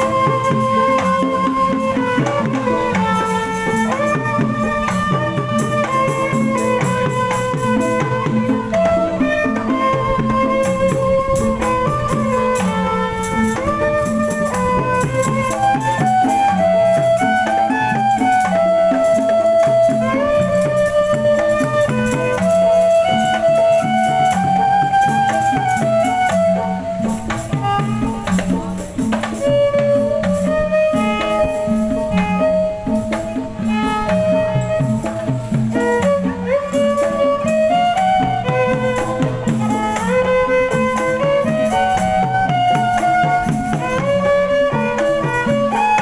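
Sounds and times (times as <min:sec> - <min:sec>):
drums and percussion rhythm: 0:00.0 - 0:46.0
melody of held notes: 0:00.0 - 0:46.0.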